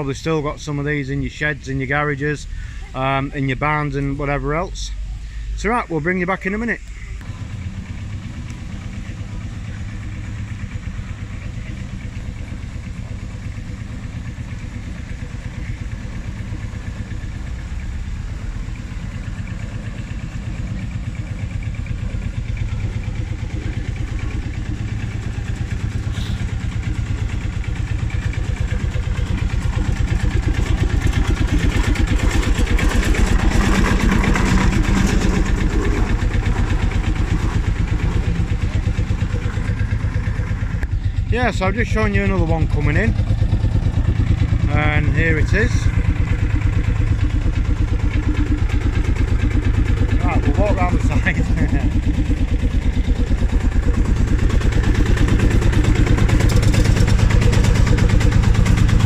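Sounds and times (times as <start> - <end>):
diesel tractor engine pumping beat: 7.2 - 59.0.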